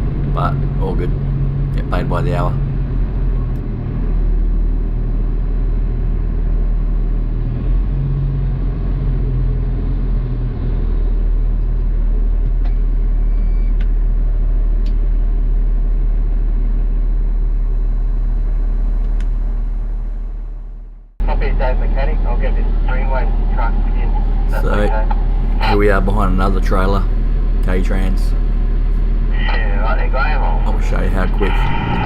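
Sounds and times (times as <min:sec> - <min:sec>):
garbage truck engine rumbling: 0:00.0 - 0:13.3, 0:14.0 - 0:32.0.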